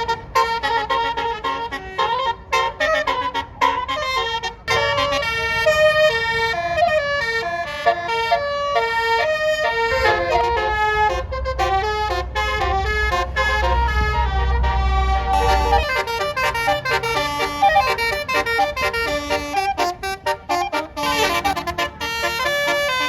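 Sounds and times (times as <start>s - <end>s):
bus engine rumbling: 0.0s - 23.0s
musical air horn melody: 0.0s - 23.0s.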